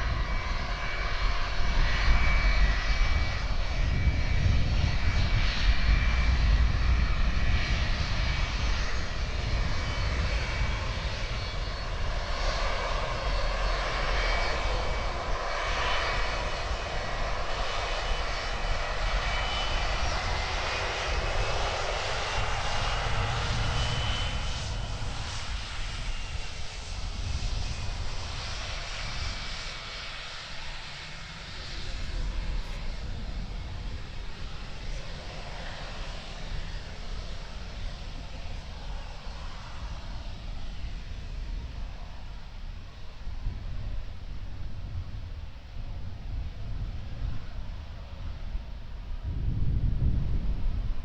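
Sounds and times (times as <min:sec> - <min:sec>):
airliner engines roaring: 0:00.0 - 0:51.0.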